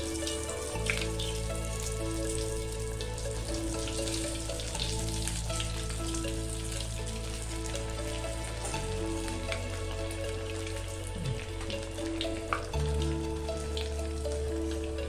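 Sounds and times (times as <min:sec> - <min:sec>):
deep-frying sizzle with crackles: 0:00.0 - 0:15.0
soft background music: 0:00.0 - 0:15.0.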